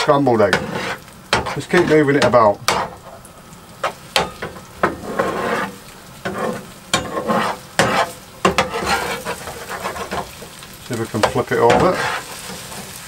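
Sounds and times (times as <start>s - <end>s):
utensils scraping a pan: 0.0s - 3.2s, 3.8s - 13.0s
eggs sizzling in a frying pan: 0.0s - 13.0s.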